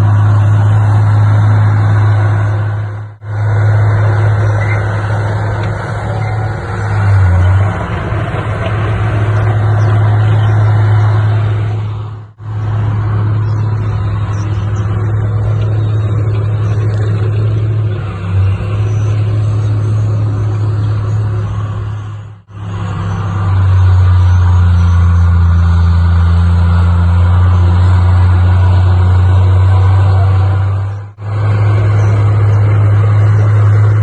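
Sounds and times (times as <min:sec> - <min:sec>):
diesel machinery droning: 0:00.0 - 0:34.0.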